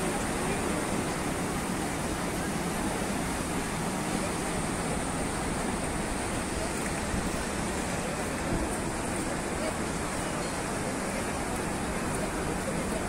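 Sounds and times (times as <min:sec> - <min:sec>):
sea surf breaking on beach: 0:00.0 - 0:13.0.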